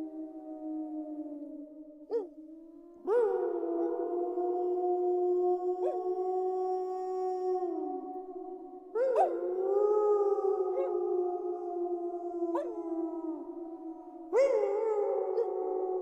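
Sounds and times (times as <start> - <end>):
wolves howling: 0.0 - 2.4, 3.0 - 16.0.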